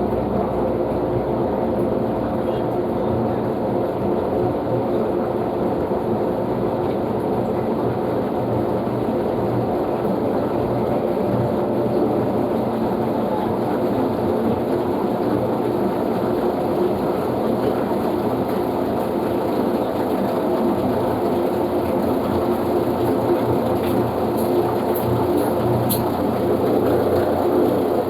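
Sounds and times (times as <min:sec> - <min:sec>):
washing machine rumbling: 0:00.0 - 0:28.0.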